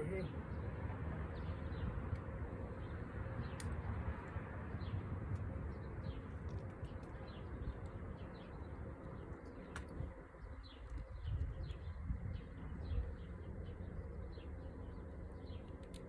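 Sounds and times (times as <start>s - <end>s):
small birds chirping: 0.0s - 16.0s
low steady rumble: 1.3s - 16.0s.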